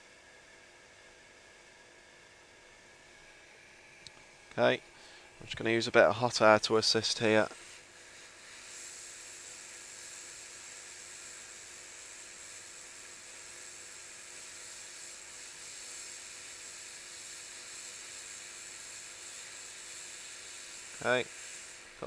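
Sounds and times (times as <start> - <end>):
hot air blower hissing: 4.3 - 22.0.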